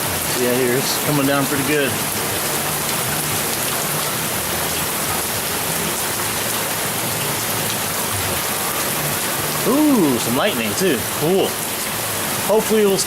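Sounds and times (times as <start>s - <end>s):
heavy rain on a deck: 0.0s - 13.0s.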